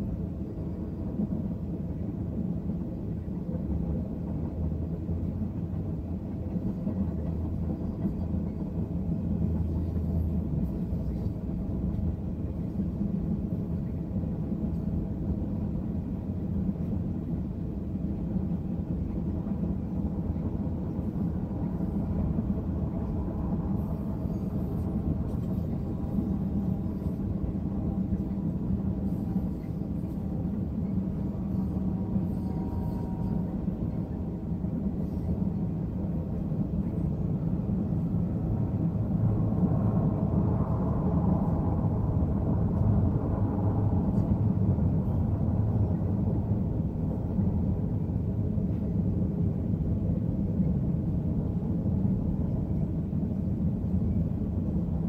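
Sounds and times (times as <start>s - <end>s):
freight train wheels rolling on rail: 0.0s - 55.0s.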